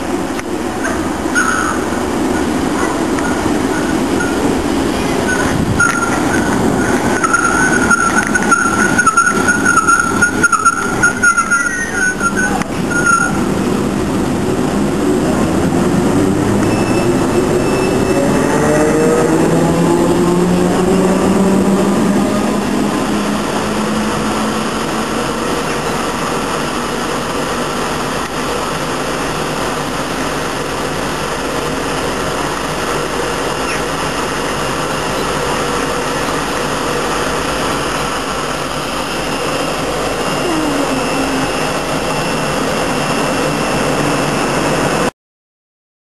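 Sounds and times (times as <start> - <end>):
electric train motor whine: 0.0 - 45.1
train rushing noise: 0.0 - 45.1.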